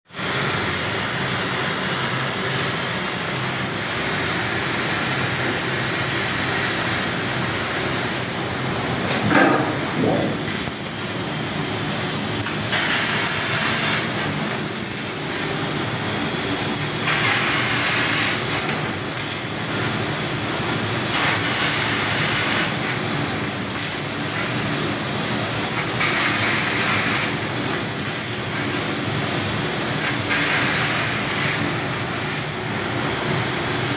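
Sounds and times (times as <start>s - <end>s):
laser cutter hissing: 0.2s - 33.9s.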